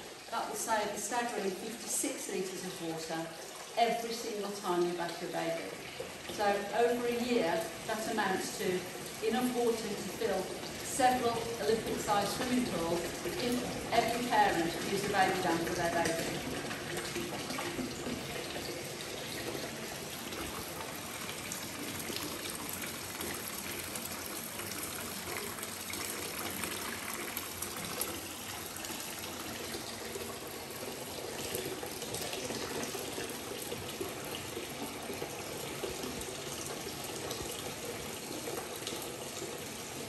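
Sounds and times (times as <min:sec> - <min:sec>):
bath tap running: 0:00.0 - 0:40.0
water pouring into bathtub: 0:00.0 - 0:40.0.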